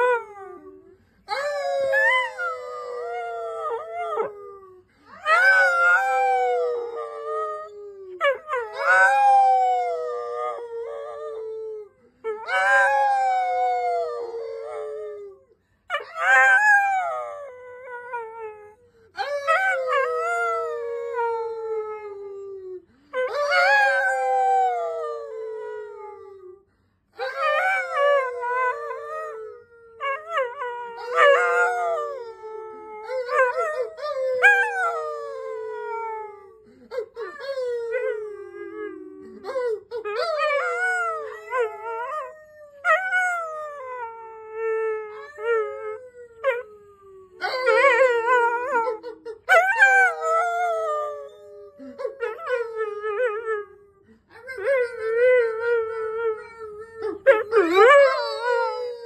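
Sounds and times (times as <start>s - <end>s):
dog howling: 0.0s - 26.6s, 27.2s - 53.8s, 54.4s - 59.0s.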